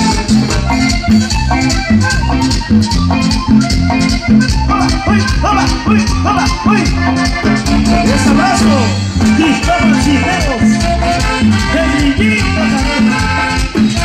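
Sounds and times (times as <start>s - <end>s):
cumbia band over loudspeakers: 0.0s - 14.0s.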